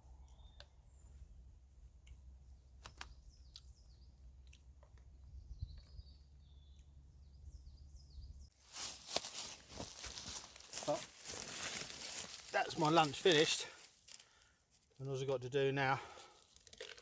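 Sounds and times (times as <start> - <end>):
faint birdsong chirps: 0.0 - 16.4.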